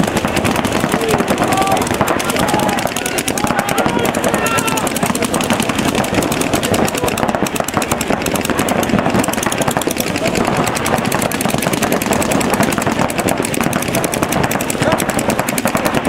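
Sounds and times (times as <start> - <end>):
paintball markers firing: 0.0 - 16.0.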